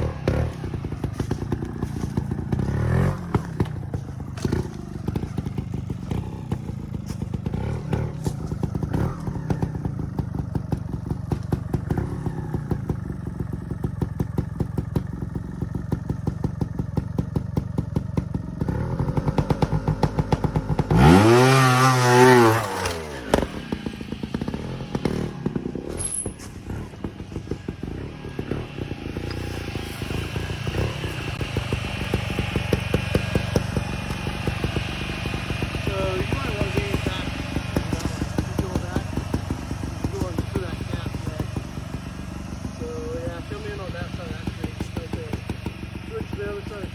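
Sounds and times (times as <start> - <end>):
motorcycle engine chugging and revving: 0.0 - 46.9.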